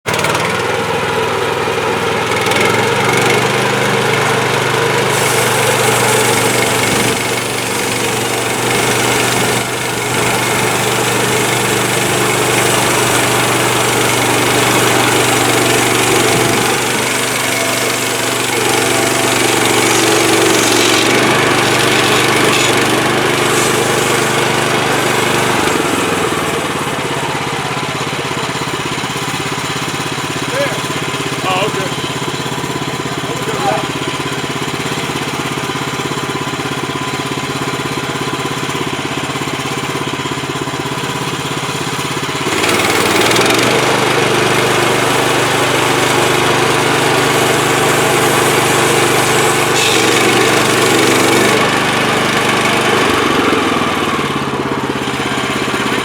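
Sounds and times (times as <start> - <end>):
sawmill gas engine running: 0.0 - 56.0.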